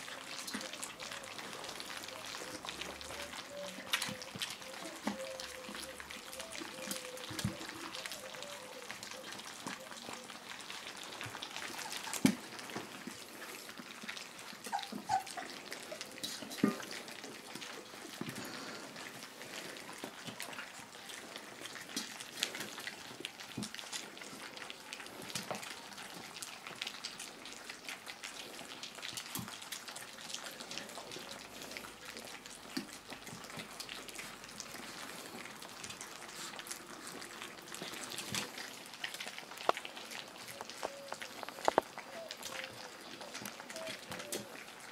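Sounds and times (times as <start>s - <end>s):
puppies lapping wet food: 0.0s - 44.9s.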